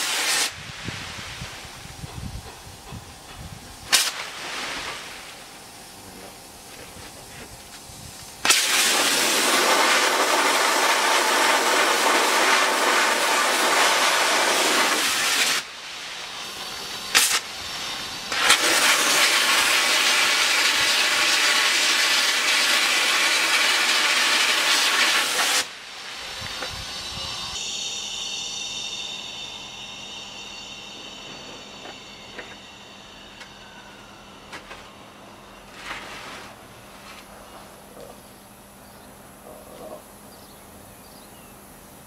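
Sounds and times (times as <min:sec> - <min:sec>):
sandblaster hissing: 0:00.0 - 0:37.0.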